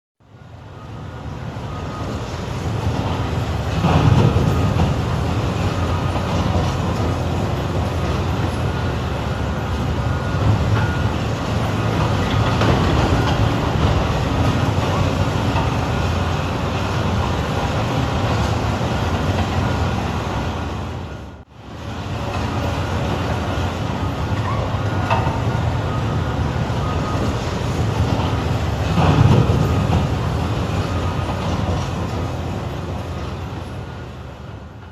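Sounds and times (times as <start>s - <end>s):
heavy diesel machinery running: 0.2s - 34.9s.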